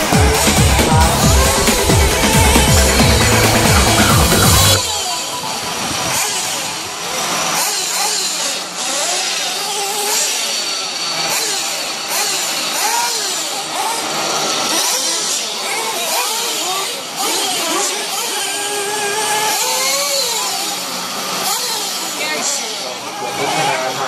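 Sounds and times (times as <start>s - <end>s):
small nitro engines revving: 0.0s - 24.0s.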